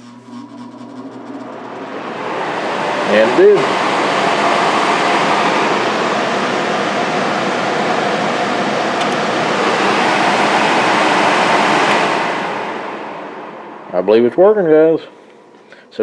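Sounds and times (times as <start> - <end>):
blower fan rushing air: 0.0 - 16.0.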